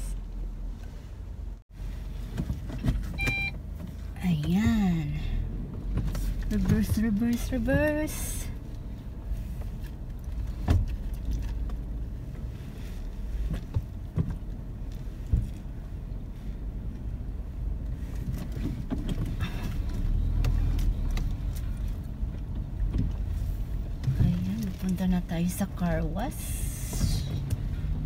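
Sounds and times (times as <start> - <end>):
car engine rumble from inside: 0.0 - 28.0.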